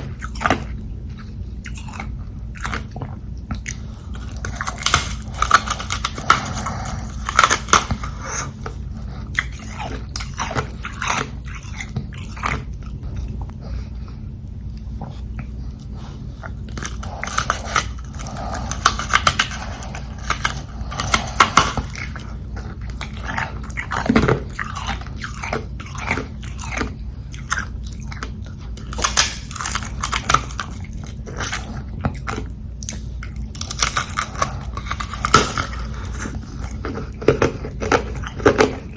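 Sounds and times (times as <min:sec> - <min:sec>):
chewing crunchy ice: 0:00.0 - 0:38.9.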